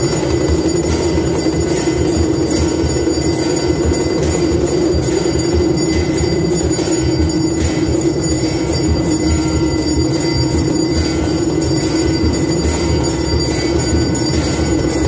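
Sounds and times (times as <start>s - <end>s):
fast drum beat: 0.0s - 15.0s
temple bells ringing: 0.0s - 15.0s.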